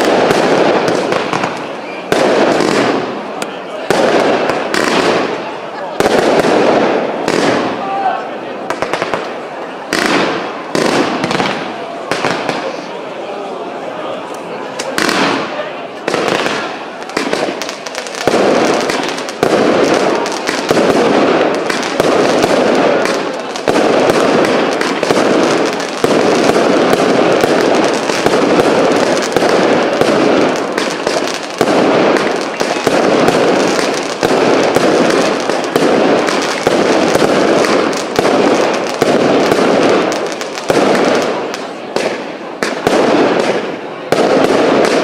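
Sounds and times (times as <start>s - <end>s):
fireworks barrage firing: 0.0s - 13.0s, 14.6s - 45.0s.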